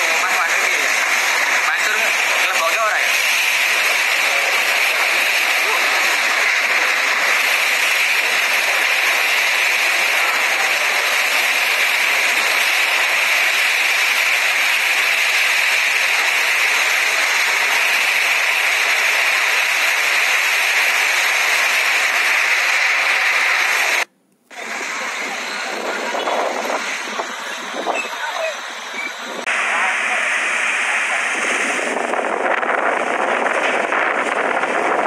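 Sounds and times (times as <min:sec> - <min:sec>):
heavy rain pouring: 0:00.0 - 0:35.0
strong wind: 0:00.0 - 0:35.0.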